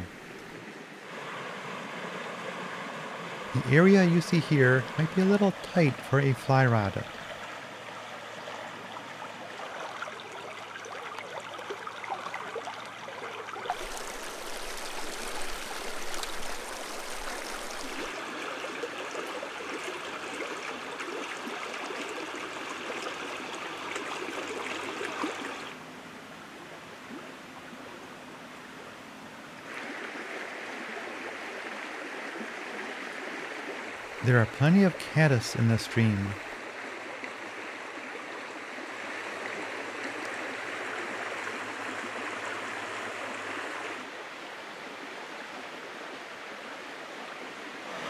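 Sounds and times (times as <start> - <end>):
stream water rushing over gravel: 0.0 - 25.8, 29.7 - 48.0.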